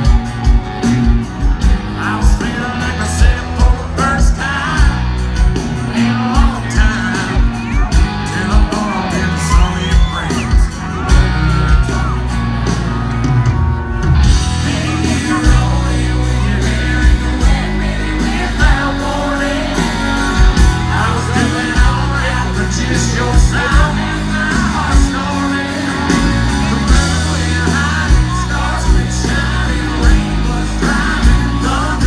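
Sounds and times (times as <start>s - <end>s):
live country band playing: 0.0s - 32.0s
steady drum beat: 0.0s - 32.0s
man singing: 1.6s - 12.4s, 14.3s - 32.0s.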